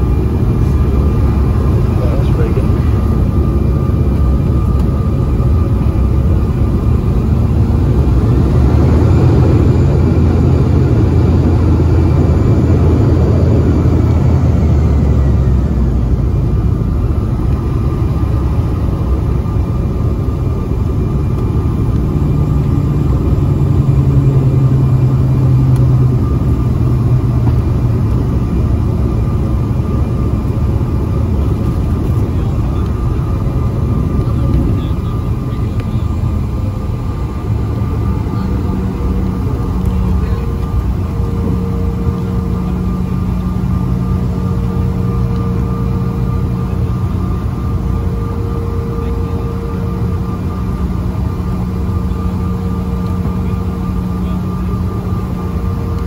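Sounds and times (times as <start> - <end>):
jet engine noise with whine: 0.0 - 56.0.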